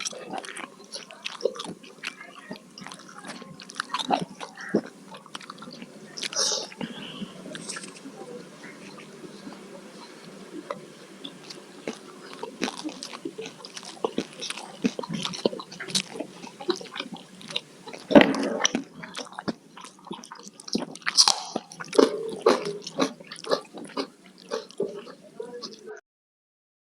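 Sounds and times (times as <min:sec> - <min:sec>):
chewing and crunchy biting: 0:00.0 - 0:25.8.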